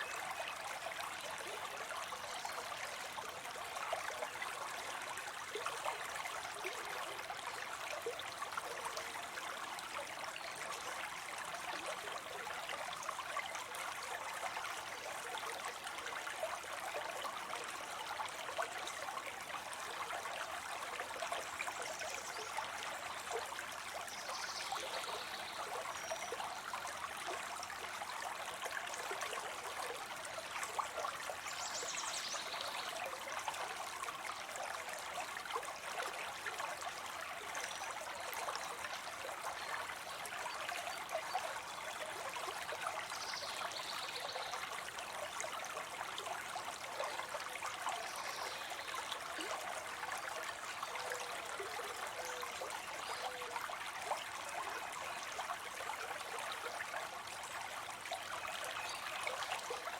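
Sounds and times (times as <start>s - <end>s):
water trickling into a pond: 0.0s - 59.9s.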